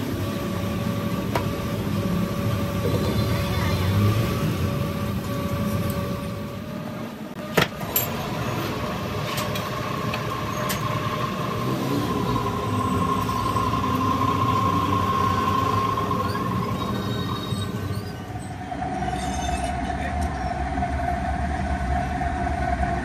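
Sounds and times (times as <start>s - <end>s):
grinding machine hum and whine: 0.0s - 23.0s.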